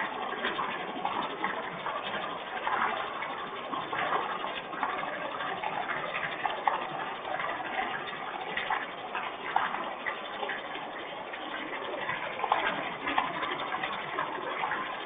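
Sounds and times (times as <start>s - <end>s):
sharp drip ticks: 0.0s - 15.0s
steady rain: 0.0s - 15.0s.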